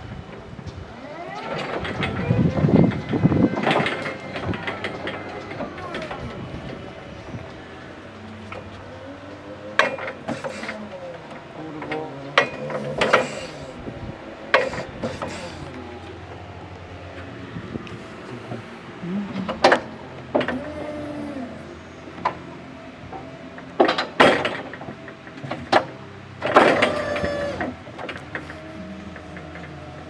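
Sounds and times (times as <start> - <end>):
low hydraulic hum: 0.0 - 30.0
sharp clicks and clunks of controls: 0.2 - 13.8, 14.4 - 18.6, 19.3 - 20.9, 22.1 - 30.0.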